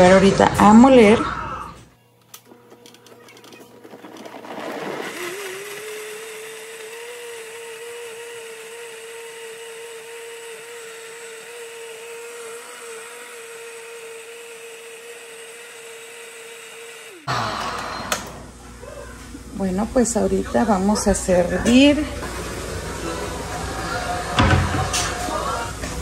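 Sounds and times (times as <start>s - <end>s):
blender motor whine: 2.5s - 26.0s.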